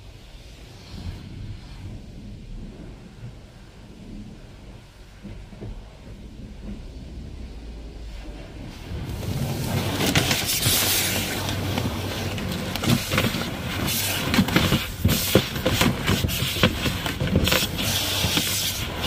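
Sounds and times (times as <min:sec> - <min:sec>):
car wash jets spraying water: 0:00.0 - 0:19.0
steady low hum: 0:00.0 - 0:19.0.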